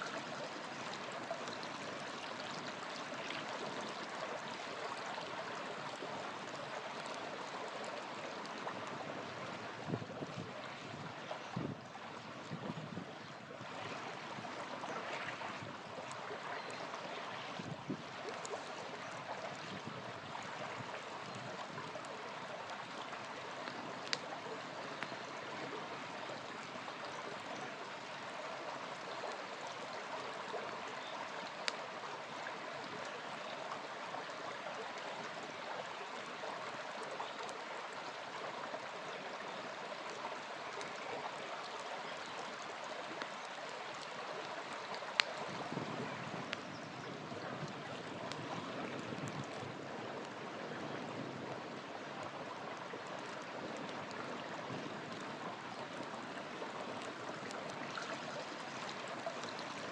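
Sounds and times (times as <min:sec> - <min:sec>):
campfire crackle: 0:00.0 - 0:59.9
river rushing and gurgling: 0:00.0 - 0:59.9.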